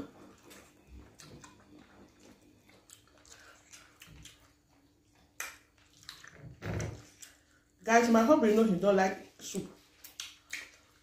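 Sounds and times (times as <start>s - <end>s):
people chewing and eating: 0.0s - 7.8s, 9.3s - 11.0s.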